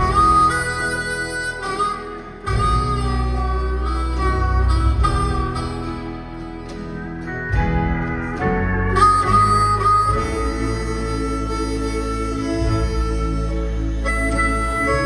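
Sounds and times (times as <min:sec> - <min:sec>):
country band with guitar: 0:00.0 - 0:15.0
harmonica playing lead notes: 0:00.0 - 0:15.0.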